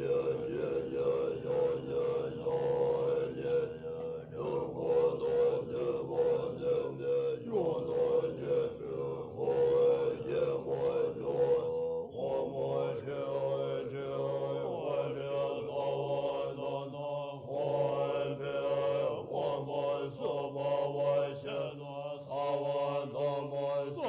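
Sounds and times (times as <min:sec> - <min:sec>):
mantra chanting: 0:00.0 - 0:24.0.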